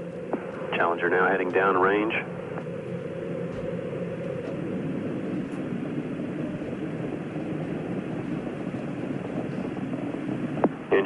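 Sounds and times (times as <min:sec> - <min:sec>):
rocket engines rumbling: 0:00.0 - 0:11.0.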